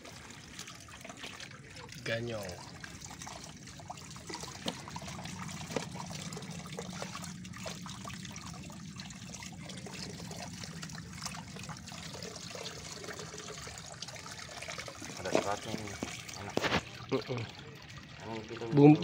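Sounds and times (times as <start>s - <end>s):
water running and trickling: 0.0s - 19.0s.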